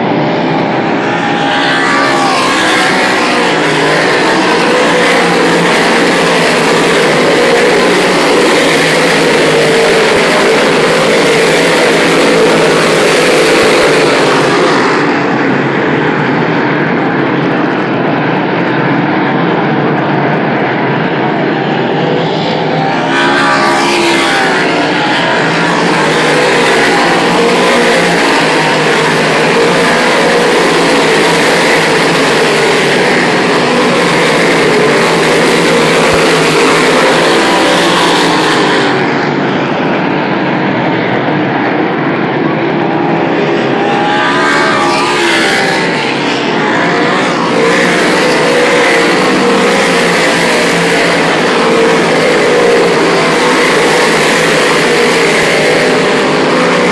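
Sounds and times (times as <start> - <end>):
race car engines roaring: 0.0 - 56.9.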